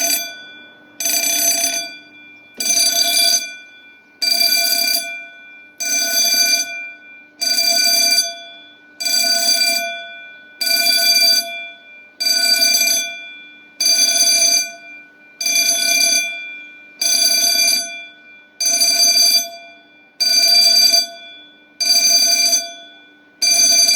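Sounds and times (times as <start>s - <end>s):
fire alarm bell ringing: 0.0s - 23.9s.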